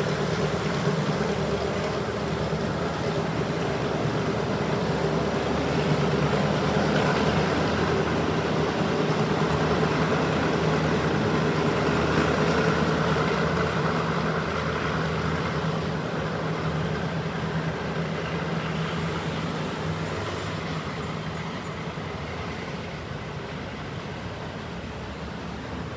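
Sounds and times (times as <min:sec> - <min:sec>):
diesel locomotive engine hum: 0:00.0 - 0:25.9
train rolling noise: 0:00.0 - 0:25.9.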